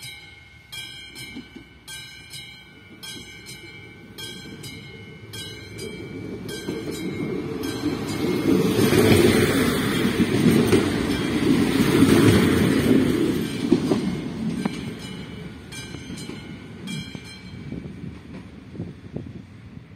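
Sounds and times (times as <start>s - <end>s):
train wheels and engine rumbling: 0.0s - 19.9s.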